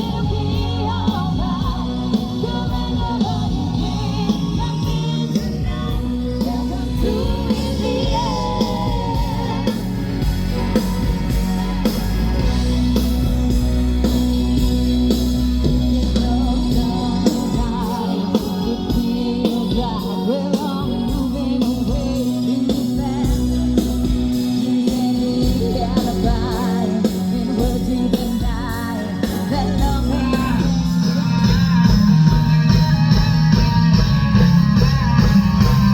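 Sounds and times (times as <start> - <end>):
live rock band playing: 0.0 - 35.9
person singing: 0.0 - 35.9.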